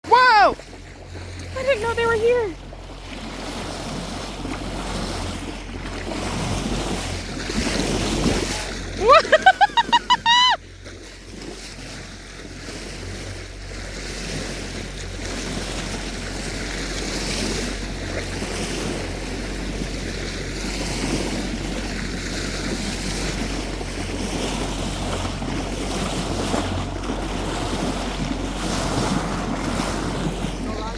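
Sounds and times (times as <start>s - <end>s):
waves washing around boat: 0.0s - 30.9s.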